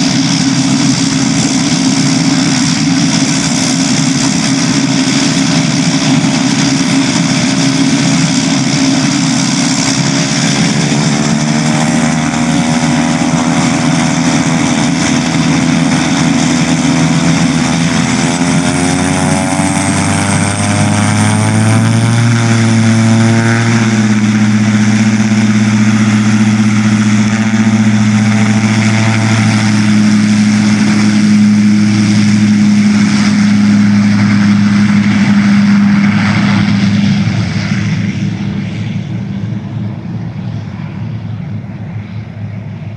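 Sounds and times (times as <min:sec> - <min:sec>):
turboprop engine and propeller: 0:00.0 - 0:42.9.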